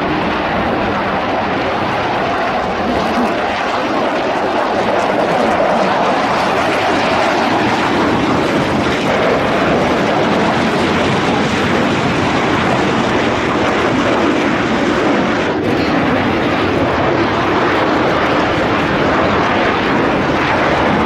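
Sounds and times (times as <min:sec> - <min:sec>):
loud jet engine noise: 0:00.0 - 0:21.0.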